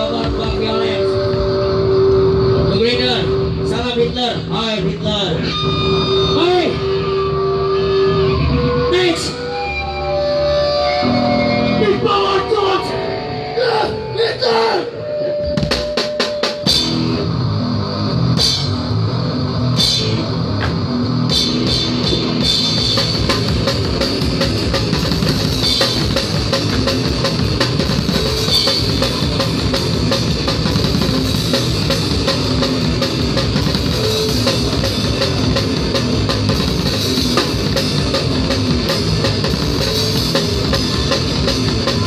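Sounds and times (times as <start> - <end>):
live metal band playing: 0.0 - 42.0.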